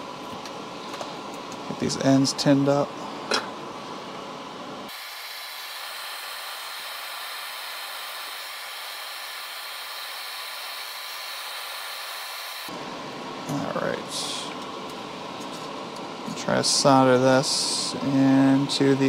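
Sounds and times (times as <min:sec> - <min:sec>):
extractor fan hissing: 0:00.0 - 0:19.0.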